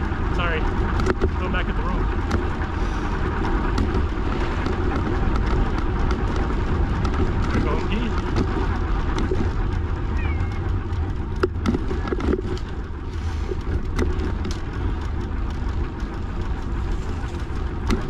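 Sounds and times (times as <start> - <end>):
bicycle rolling rumble: 0.0 - 18.0
small clicks and rattles: 0.0 - 18.0.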